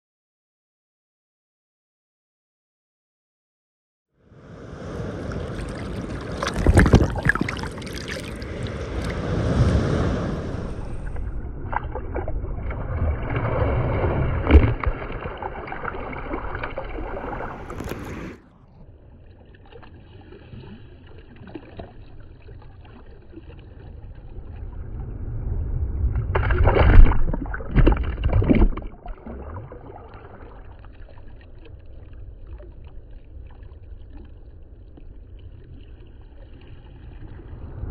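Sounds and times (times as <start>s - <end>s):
sea water sloshing and splashing: 4.4s - 37.9s.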